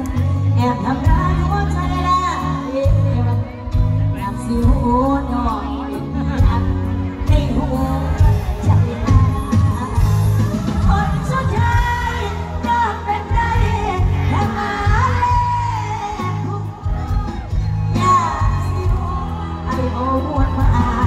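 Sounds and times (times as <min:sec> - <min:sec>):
woman singing pop song: 0:00.0 - 0:21.0.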